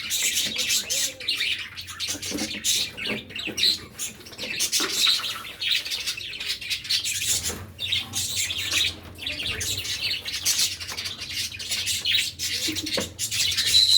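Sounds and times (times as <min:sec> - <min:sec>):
cockatiels chirping: 0:00.0 - 0:13.9.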